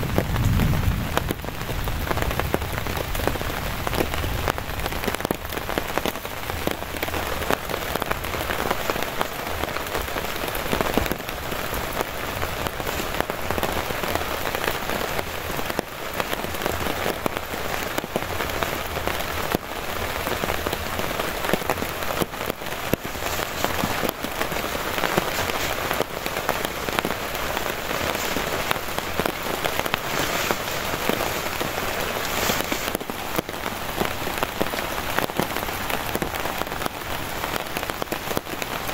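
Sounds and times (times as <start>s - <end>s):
heavy rain: 0.0s - 38.9s
raindrops ticking close by: 0.0s - 38.9s.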